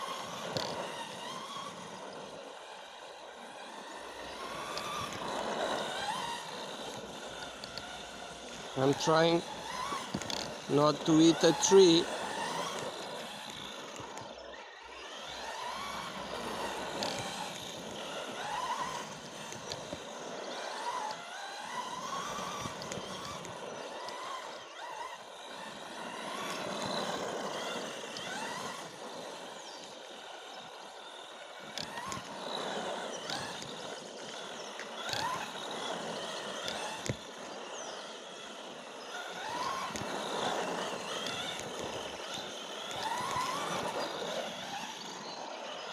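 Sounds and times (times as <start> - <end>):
rc car motor whining: 0.0 - 45.9.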